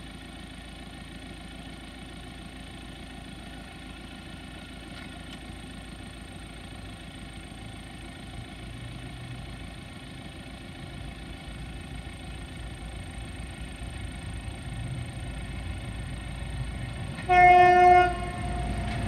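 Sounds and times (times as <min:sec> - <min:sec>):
locomotive diesel engine running: 0:00.0 - 0:19.0.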